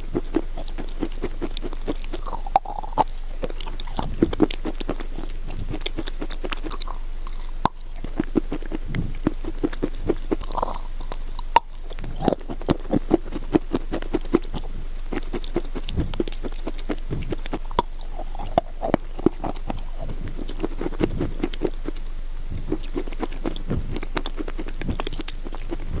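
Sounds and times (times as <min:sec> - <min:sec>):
chewing and crunching wet clay: 0:00.0 - 0:26.0.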